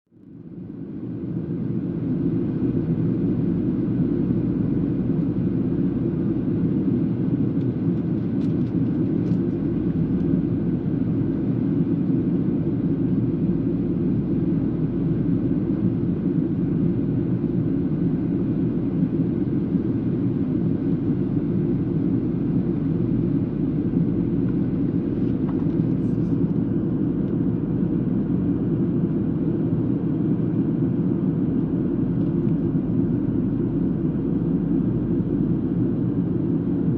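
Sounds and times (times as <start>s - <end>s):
airliner cabin engine rush: 0.3s - 36.9s.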